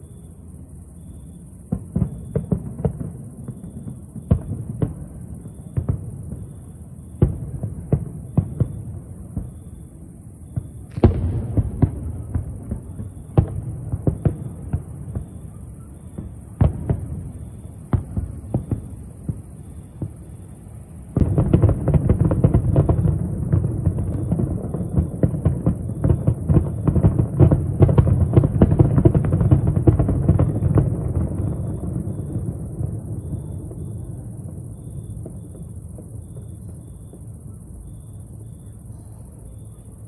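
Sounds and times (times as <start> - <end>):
fireworks barrage rumble: 0.0 - 40.0
distant fireworks bangs: 1.0 - 40.0.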